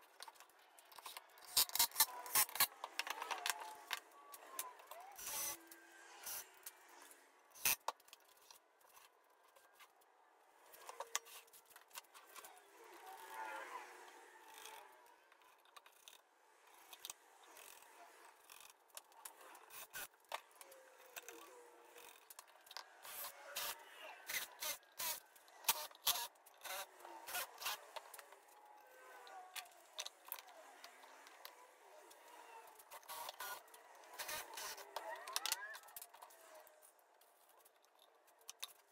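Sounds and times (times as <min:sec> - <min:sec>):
wood parts and tools clicking: 0:00.0 - 0:38.9.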